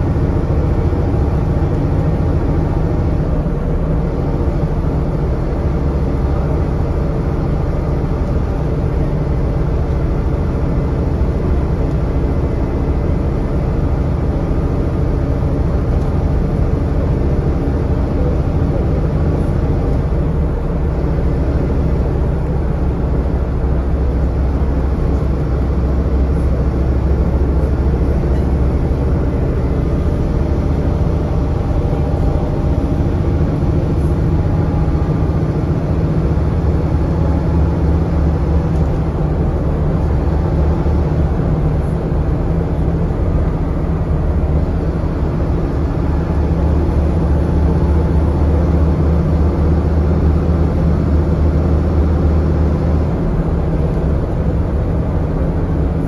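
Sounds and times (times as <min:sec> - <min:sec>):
bus diesel engine drone: 0:00.0 - 0:56.0
road and body rumble: 0:00.0 - 0:56.0.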